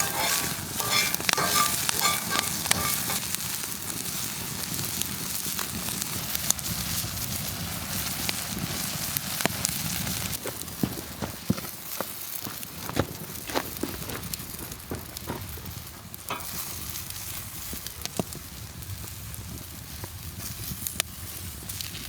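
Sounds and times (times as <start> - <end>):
food sizzling: 0.0 - 12.6, 13.7 - 19.8, 20.4 - 22.0
campfire crackling and popping: 0.0 - 22.0.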